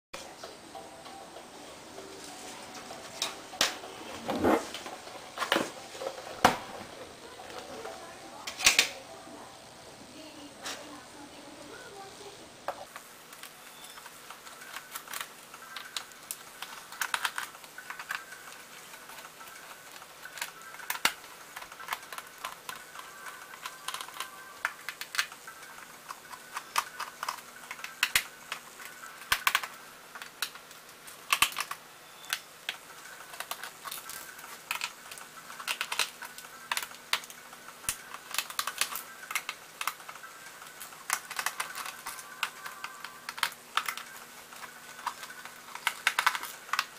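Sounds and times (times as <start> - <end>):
faint steady hum: 0.2 - 46.9.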